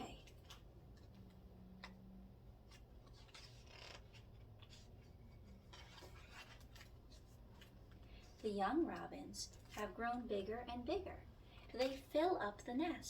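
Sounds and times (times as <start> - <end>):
book pages turning: 0.2 - 10.2, 11.7 - 12.3.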